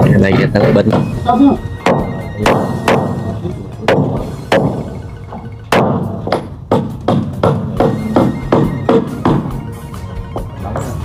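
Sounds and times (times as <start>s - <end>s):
hammer striking wooden planks: 0.0s - 9.6s.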